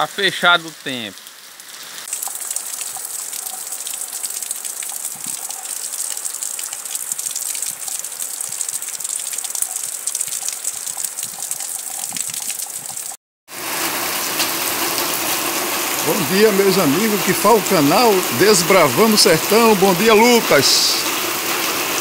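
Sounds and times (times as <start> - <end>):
heavy rain pouring: 0.2 - 22.0.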